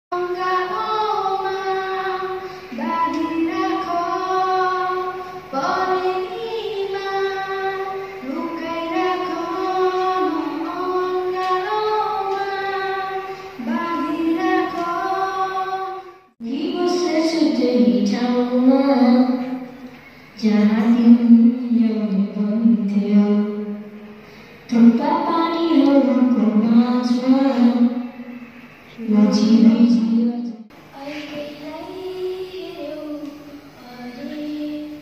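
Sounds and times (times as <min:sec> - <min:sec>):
child singing: 0:00.2 - 0:19.7, 0:20.4 - 0:23.6, 0:24.7 - 0:28.0, 0:29.0 - 0:35.0
girl singing into a microphone: 0:00.2 - 0:28.1, 0:28.9 - 0:35.0.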